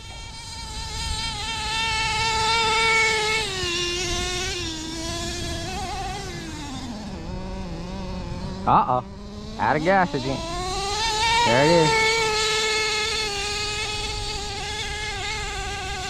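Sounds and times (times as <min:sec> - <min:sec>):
small engine buzzing whine: 0:00.0 - 0:16.0.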